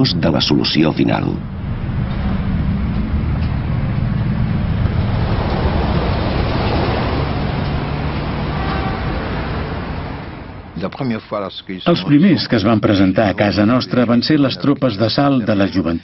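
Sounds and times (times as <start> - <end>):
vehicles driving past: 0.0 - 15.8
road noise: 0.0 - 16.0.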